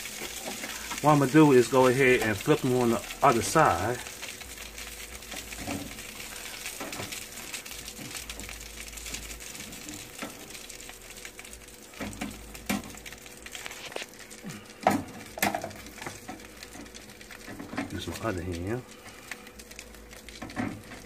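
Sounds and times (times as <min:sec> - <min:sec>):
chicken wings sizzling: 0:00.0 - 0:21.0
faint steady hum: 0:00.0 - 0:21.0.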